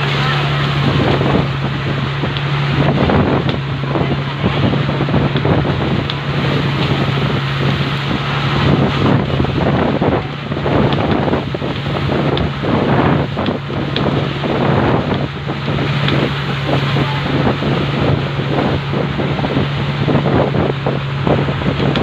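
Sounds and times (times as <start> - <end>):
boat engine droning: 0.0 - 22.0
sea water rushing: 0.0 - 22.0
wind noise on microphone: 0.0 - 22.0.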